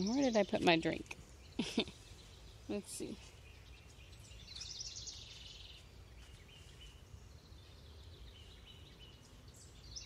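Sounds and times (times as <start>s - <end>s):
birds chirping: 0.0s - 10.0s
songbird trilling: 0.0s - 10.0s.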